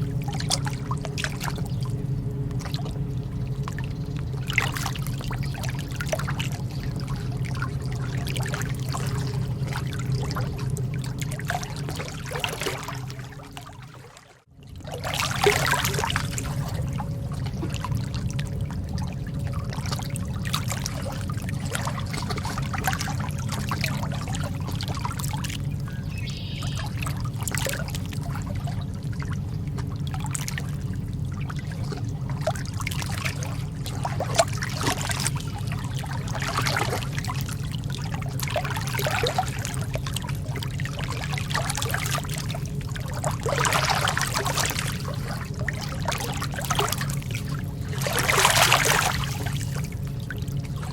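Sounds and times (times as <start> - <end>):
steady low rumble: 0.0 - 50.9
water lapping at shore: 0.0 - 50.9.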